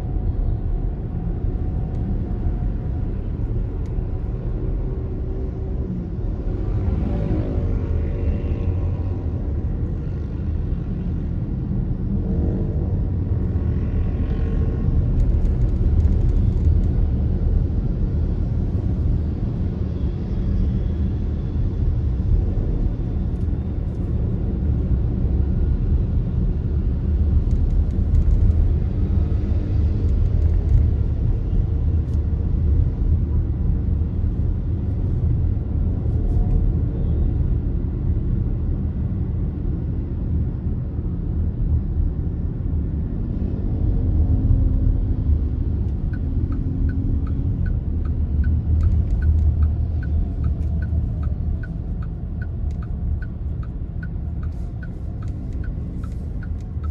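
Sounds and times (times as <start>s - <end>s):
vehicle engine: 0.0s - 37.2s, 42.7s - 56.9s
road noise: 0.0s - 56.9s.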